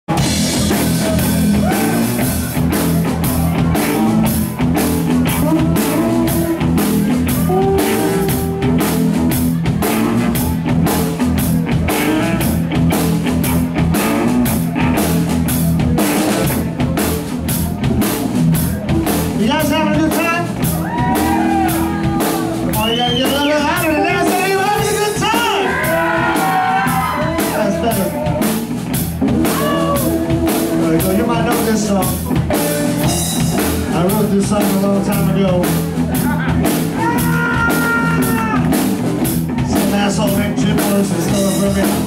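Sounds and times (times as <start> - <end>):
rock band playing: 0.1 - 42.0.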